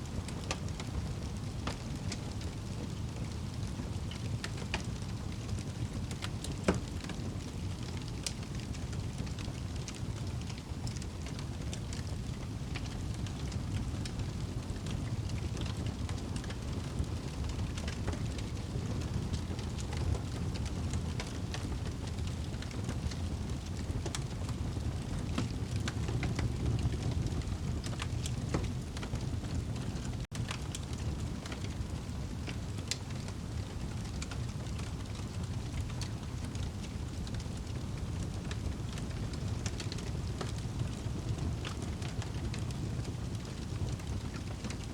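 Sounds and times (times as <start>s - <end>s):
fire crackling in fireplace: 0.0s - 44.9s.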